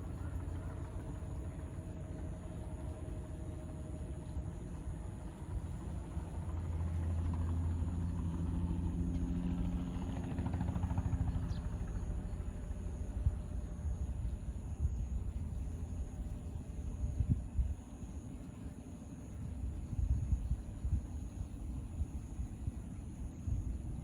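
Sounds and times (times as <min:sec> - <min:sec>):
helicopter rumble: 0:00.0 - 0:24.0.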